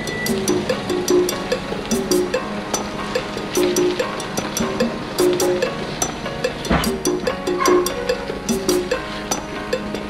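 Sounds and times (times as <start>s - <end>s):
music with percussive beat: 0.0s - 10.0s.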